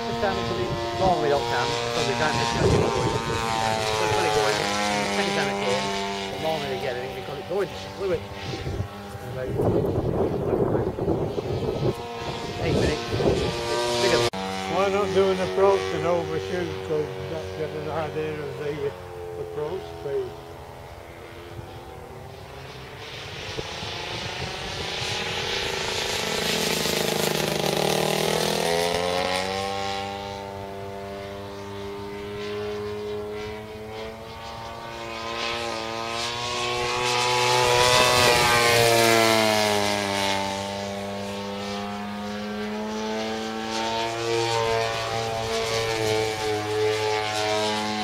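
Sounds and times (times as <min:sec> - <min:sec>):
model plane engine passing by: 0:00.0 - 0:48.0.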